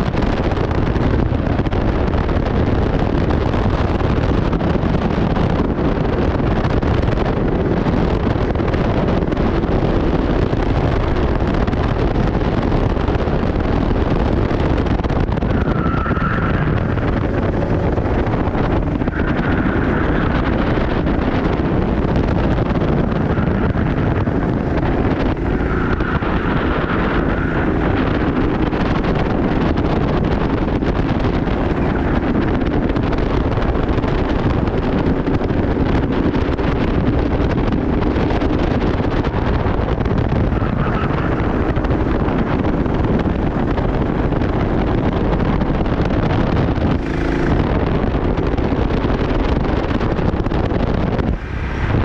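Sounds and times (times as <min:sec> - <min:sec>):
kart engine running: 0:00.0 - 0:52.0
wind noise on microphone: 0:00.0 - 0:52.0.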